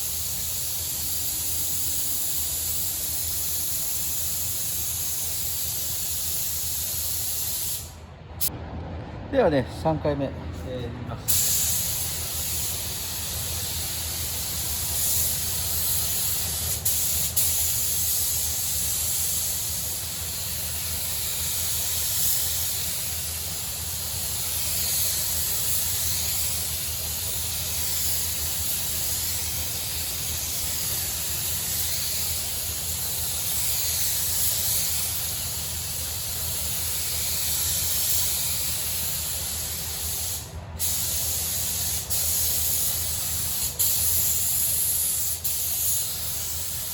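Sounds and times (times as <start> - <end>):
air spray gun hissing: 0.0 - 8.5, 11.3 - 46.9
steady low hum: 0.0 - 46.9.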